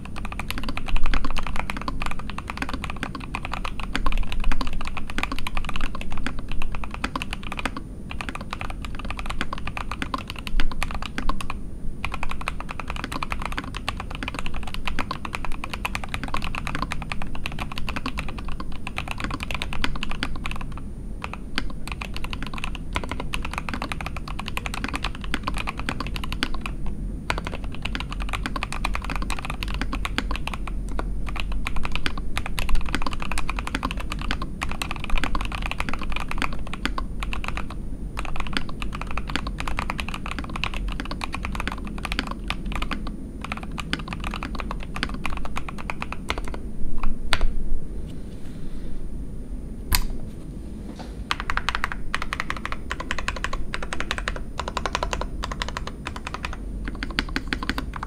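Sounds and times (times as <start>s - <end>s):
mechanical keyboard typing: 0.0s - 47.5s, 51.3s - 58.0s.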